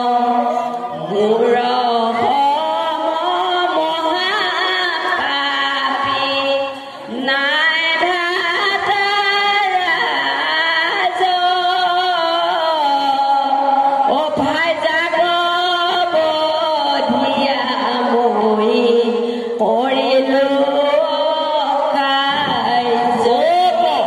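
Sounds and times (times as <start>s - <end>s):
person singing chant-like: 0.0s - 24.0s.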